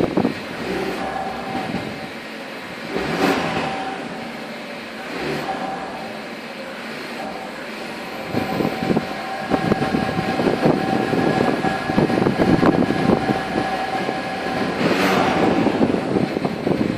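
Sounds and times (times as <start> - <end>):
engine rattling clatter: 0.0 - 16.9
engine whine: 0.0 - 16.9
petrol engine running: 0.0 - 16.9.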